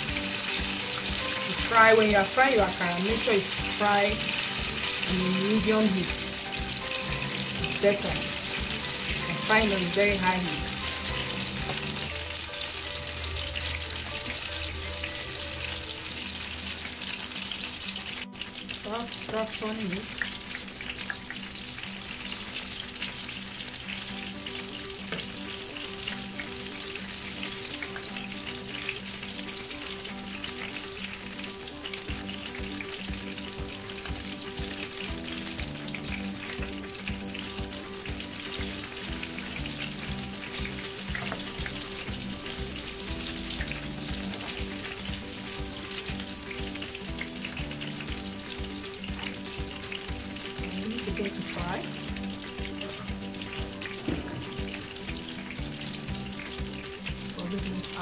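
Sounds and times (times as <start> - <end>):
fritters deep-frying crackling sizzle: 0.0 - 58.0.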